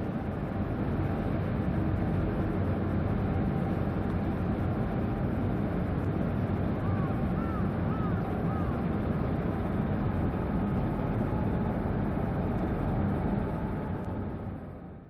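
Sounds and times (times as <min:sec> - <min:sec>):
ferry engine rumble: 0:00.0 - 0:15.0.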